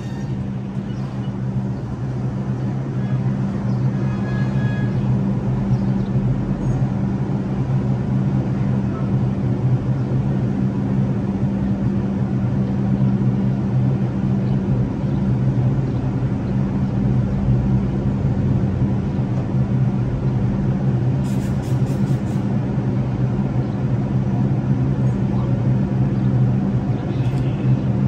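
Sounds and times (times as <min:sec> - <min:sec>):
train equipment drone: 0:00.0 - 0:28.0.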